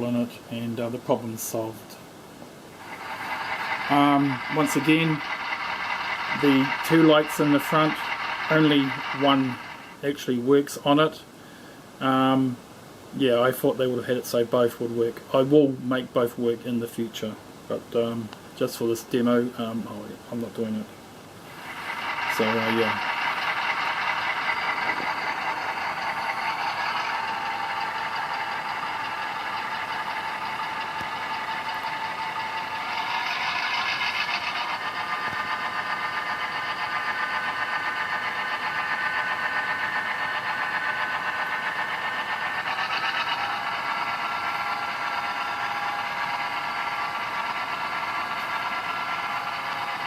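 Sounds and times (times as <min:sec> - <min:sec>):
diesel engine sound through small speaker: 0:02.7 - 0:11.4, 0:13.4 - 0:50.0.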